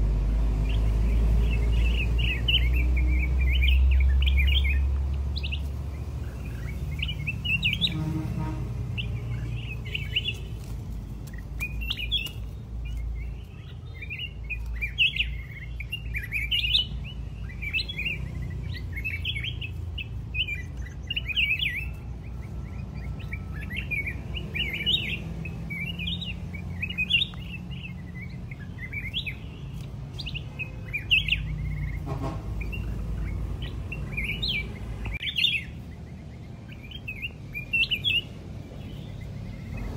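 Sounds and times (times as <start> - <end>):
birds chirping quickly: 0.0 - 39.9.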